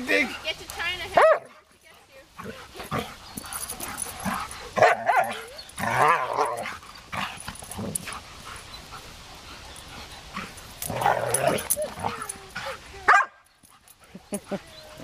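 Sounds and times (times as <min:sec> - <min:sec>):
dogs play-wrestling: 0:00.0 - 0:15.0.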